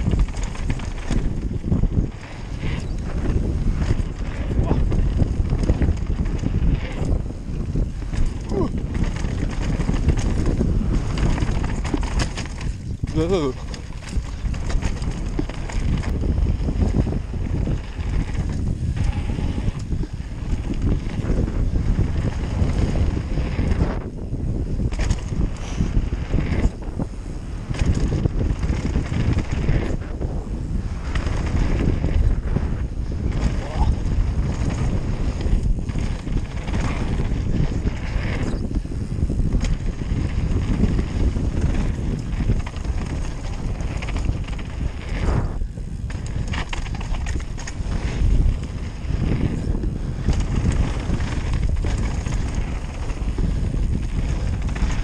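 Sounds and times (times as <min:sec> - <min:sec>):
bike rattling and knocking: 0:00.0 - 0:55.0
bike tyres rumbling on dirt: 0:00.0 - 0:55.0
wind buffeting microphone: 0:00.0 - 0:55.0.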